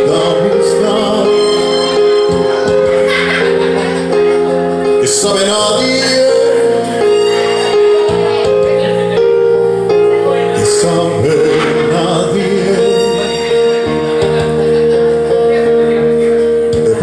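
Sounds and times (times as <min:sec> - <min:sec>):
ballad backing music on loudspeaker: 0:00.0 - 0:17.0.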